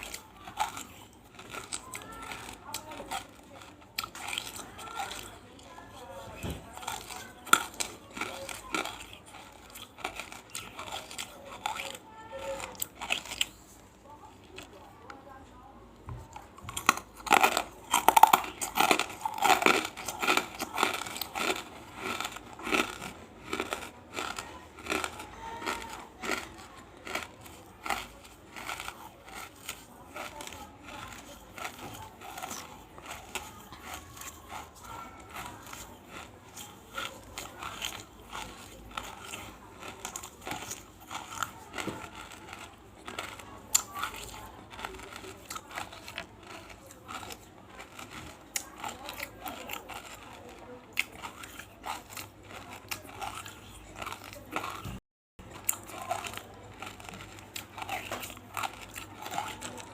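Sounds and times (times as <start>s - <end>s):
person crunching and chewing: 0.0s - 59.9s.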